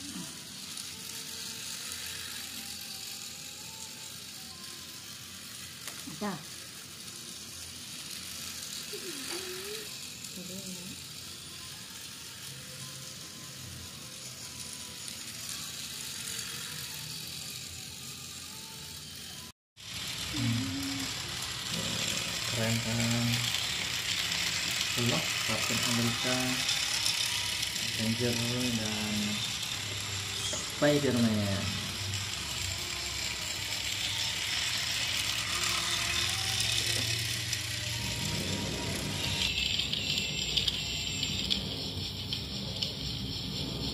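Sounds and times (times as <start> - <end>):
toy train motor whirring: 0.0 - 43.9.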